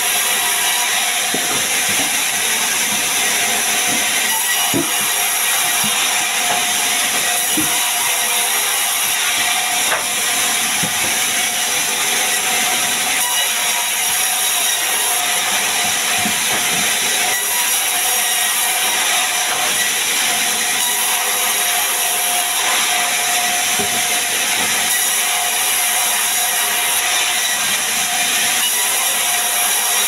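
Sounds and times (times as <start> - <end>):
band saw cutting timber: 0.0 - 30.0.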